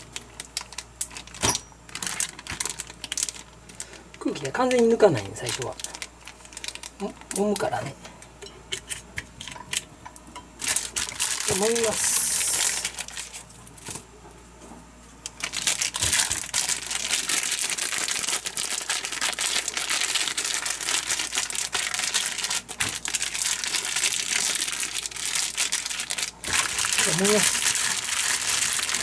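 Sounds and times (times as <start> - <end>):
plastic bag crinkling: 0.0 - 8.2, 10.6 - 14.0, 15.2 - 29.0.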